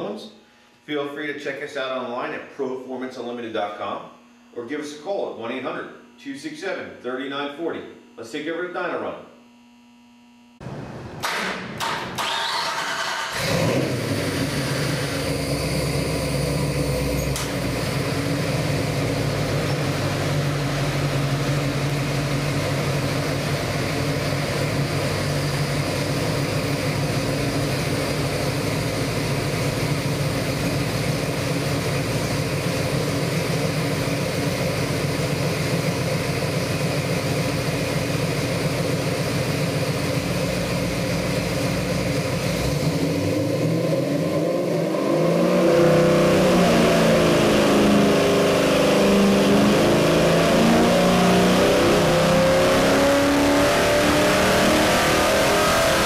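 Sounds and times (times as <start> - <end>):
engine idling and revving: 10.6 - 56.0.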